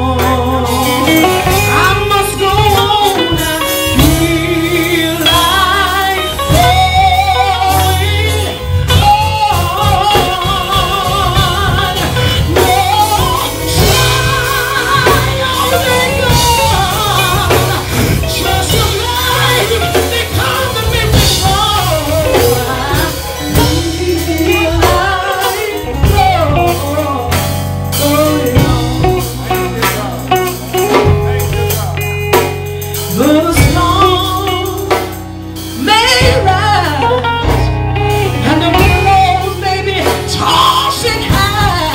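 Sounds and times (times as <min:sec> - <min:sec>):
person singing with vibrato: 0:00.0 - 0:31.6, 0:32.7 - 0:41.9
drums: 0:00.0 - 0:41.9
guitar: 0:00.0 - 0:41.9
low bass: 0:00.0 - 0:41.9.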